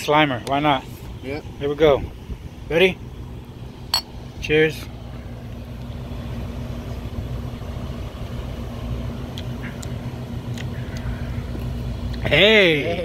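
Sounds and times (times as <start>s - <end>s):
engine idling drone: 0.7s - 13.0s.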